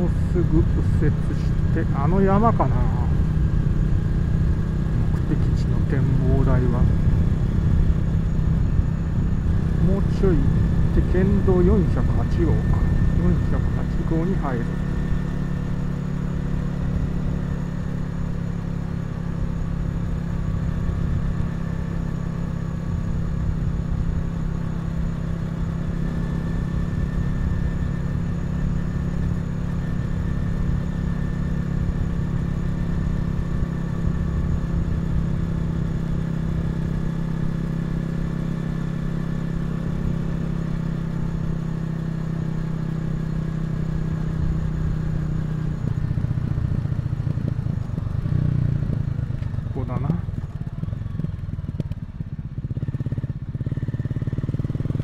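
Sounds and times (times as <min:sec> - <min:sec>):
motorcycle engine cruising: 0:00.0 - 0:55.0
road and wind noise: 0:00.0 - 0:55.0.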